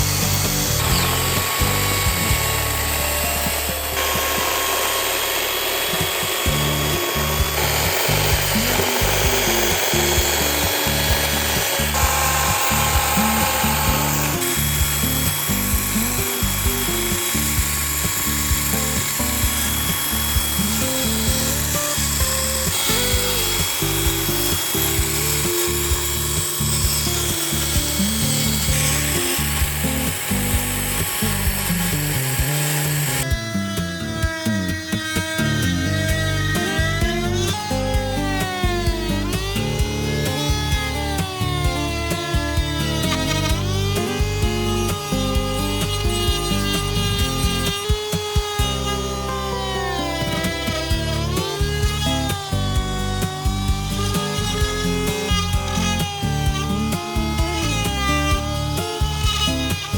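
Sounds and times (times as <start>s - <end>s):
background music with steady beat: 0.0s - 59.9s
power carving tools cutting wood: 0.0s - 59.9s.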